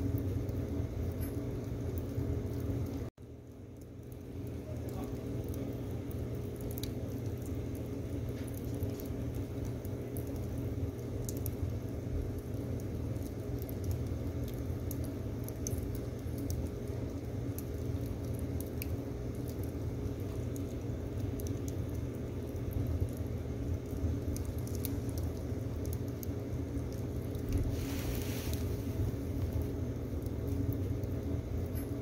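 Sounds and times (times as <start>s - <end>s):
firewood crackling and popping: 0.0s - 32.0s
stove low rumble: 0.0s - 32.0s.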